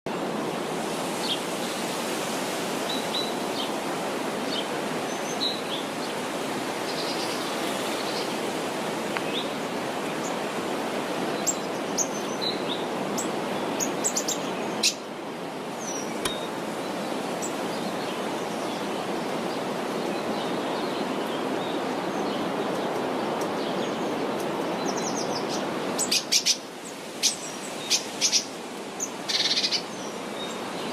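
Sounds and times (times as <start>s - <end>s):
leaves rustling in wind: 0.1s - 30.9s.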